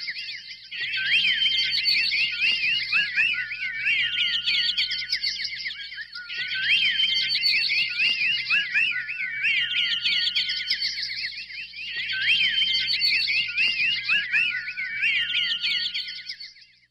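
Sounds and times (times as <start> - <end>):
songbirds chirping and singing: 0.0 - 16.9.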